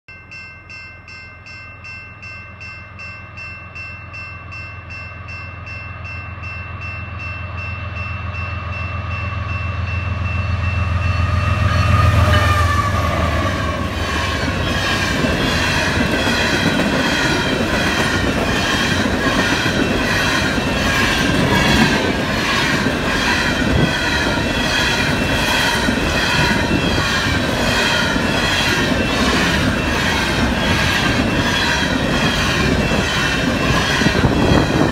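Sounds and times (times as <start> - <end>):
crossing bell ringing rapidly: 0.1 - 34.9
diesel locomotive engine drone: 3.0 - 34.9.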